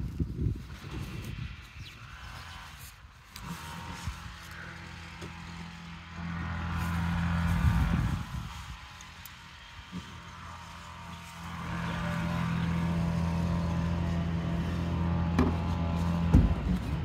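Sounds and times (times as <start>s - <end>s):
car engine running: 3.3s - 17.0s.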